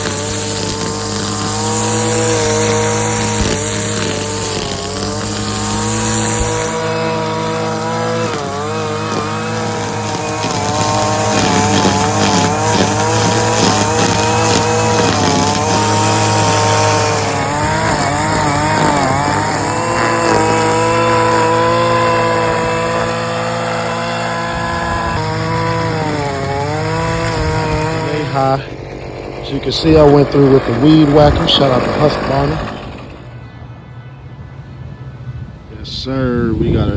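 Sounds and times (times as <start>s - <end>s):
cutting line hissing: 0.0s - 33.4s
string trimmer engine running: 0.0s - 33.7s.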